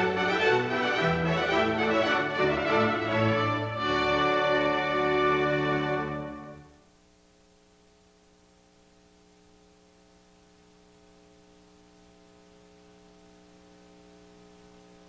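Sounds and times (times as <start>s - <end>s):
background hiss: 0.0s - 15.0s
faint electrical hum: 0.0s - 15.0s.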